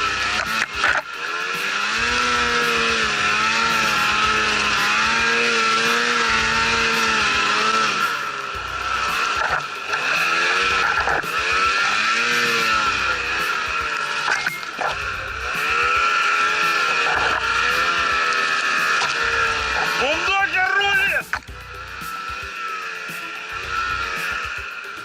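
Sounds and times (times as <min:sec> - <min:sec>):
high whine: 0:00.0 - 0:25.0
snowmobile engine revving: 0:00.0 - 0:25.0.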